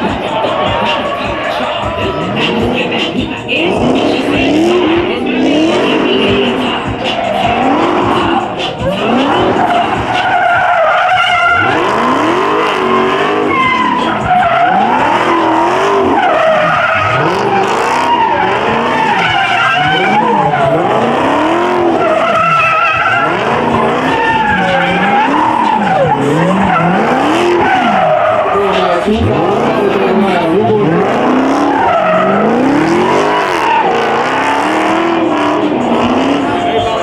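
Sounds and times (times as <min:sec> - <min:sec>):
car engine revving: 0:00.0 - 0:37.0
tyres squealing and skidding: 0:00.0 - 0:37.0.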